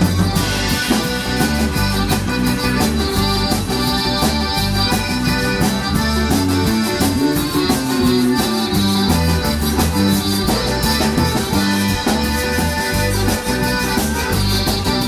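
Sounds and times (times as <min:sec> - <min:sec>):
accordion: 0:00.0 - 0:15.0
bass: 0:00.0 - 0:15.0
drums: 0:00.0 - 0:15.0
electric guitar: 0:00.0 - 0:15.0.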